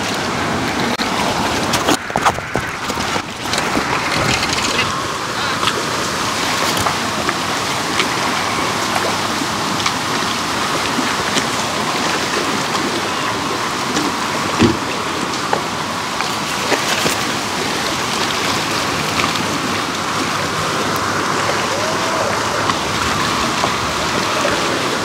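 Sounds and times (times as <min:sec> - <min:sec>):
water lapping against dock: 0:00.0 - 0:25.0.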